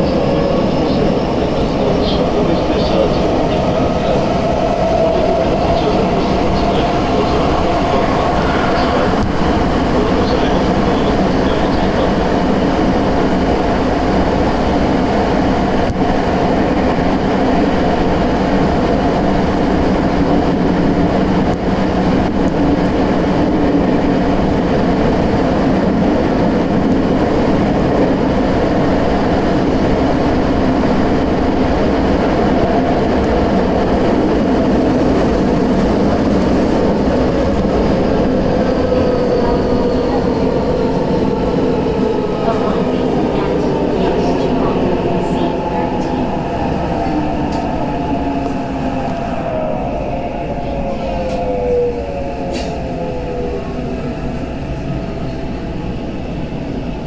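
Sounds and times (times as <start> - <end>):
subway train wheels rumbling: 0.0 - 57.0.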